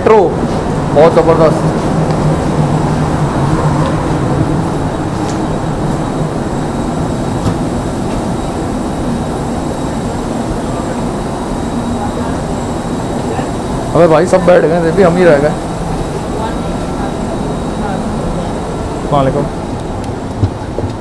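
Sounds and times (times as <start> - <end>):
faint high whine: 0.0 - 21.0
machinery low hum: 0.0 - 21.0.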